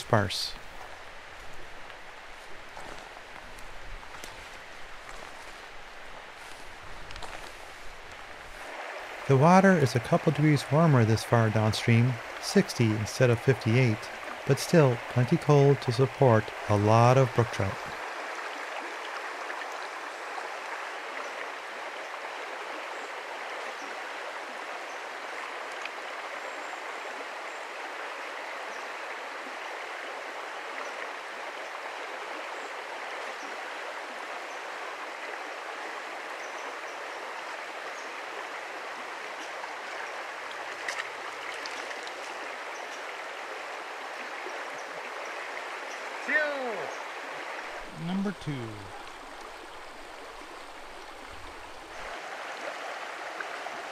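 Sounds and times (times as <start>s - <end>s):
river flowing over stones: 0.0s - 53.9s.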